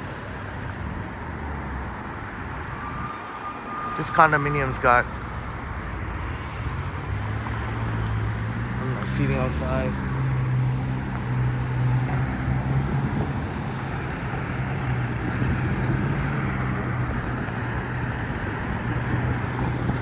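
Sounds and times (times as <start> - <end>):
passing vehicles: 0.0 - 20.0.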